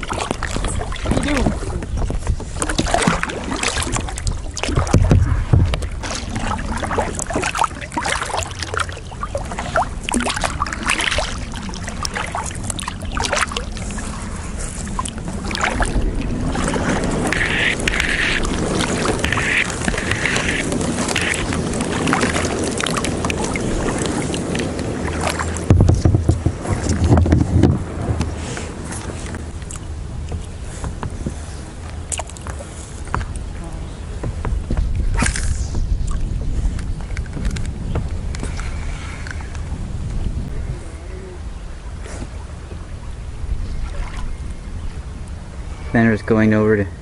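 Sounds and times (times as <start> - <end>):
paddle splashing and dripping: 0.0 - 40.5, 41.4 - 45.7
water lapping at hull: 0.0 - 47.0.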